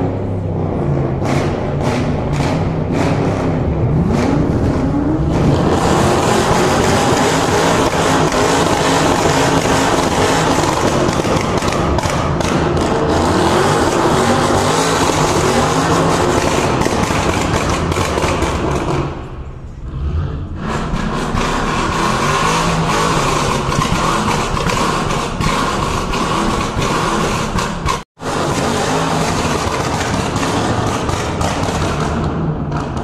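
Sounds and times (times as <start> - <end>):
car engine revving hard: 0.0 - 19.1, 19.8 - 33.0.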